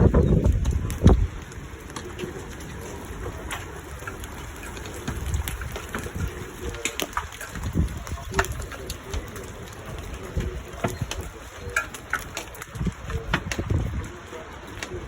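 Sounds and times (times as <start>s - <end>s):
hailstones striking surfaces: 0.0s - 15.0s
wind gusts on microphone: 0.0s - 15.0s.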